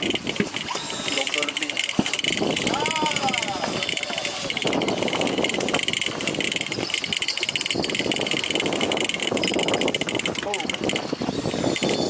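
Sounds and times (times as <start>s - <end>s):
boat engine: 0.0s - 12.0s
water rushing along hull: 0.0s - 12.0s
wind on microphone: 0.0s - 12.0s.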